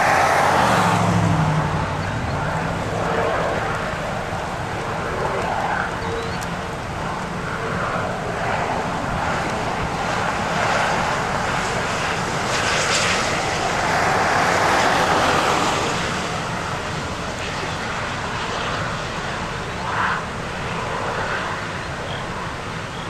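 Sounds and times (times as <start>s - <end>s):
highway traffic passing: 0.0s - 23.0s.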